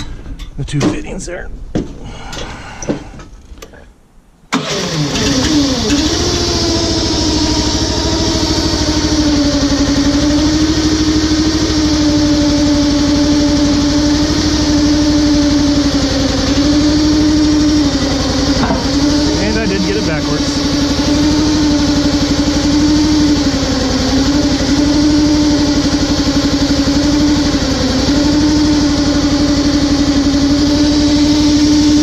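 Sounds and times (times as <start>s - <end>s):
track loader engine starting: 4.5s - 32.0s.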